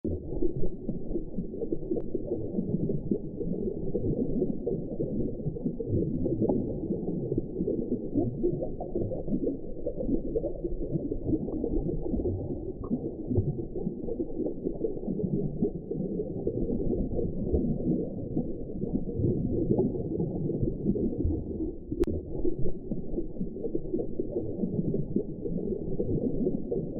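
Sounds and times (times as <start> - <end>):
underwater churning rumble: 0.1 - 26.9.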